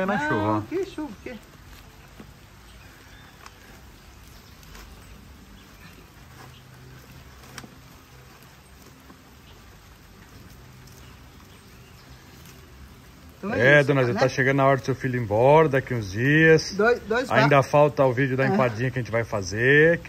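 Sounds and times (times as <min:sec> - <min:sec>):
light drizzle pattering: 0:00.0 - 0:20.0.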